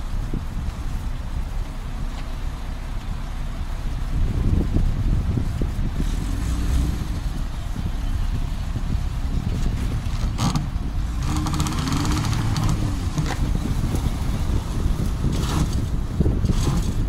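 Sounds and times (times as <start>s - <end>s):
car engine running: 0.0s - 17.0s
wind buffeting microphone: 0.0s - 17.0s.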